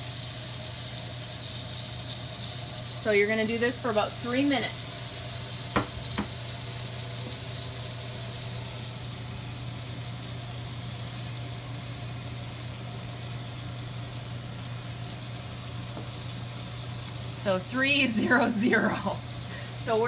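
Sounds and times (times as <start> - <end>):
range hood fan humming: 0.0 - 20.0
steak sizzling in skillet: 0.0 - 20.0.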